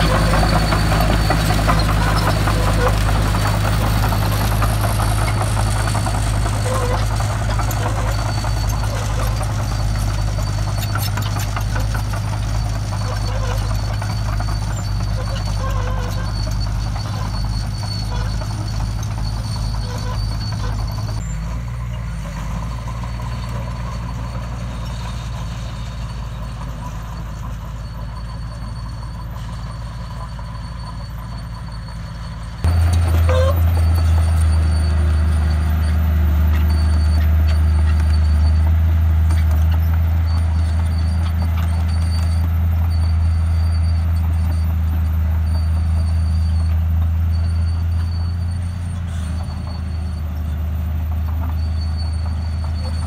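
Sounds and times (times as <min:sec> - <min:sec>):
bulldozer diesel engine drone: 0:00.0 - 0:53.0.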